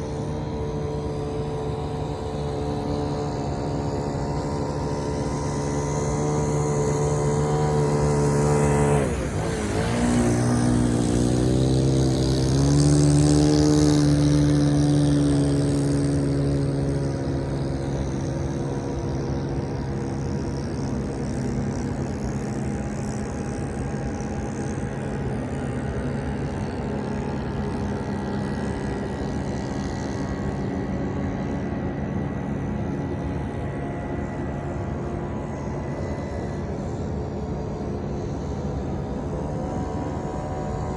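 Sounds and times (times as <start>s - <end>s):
model boat engine running: 0.0s - 40.9s.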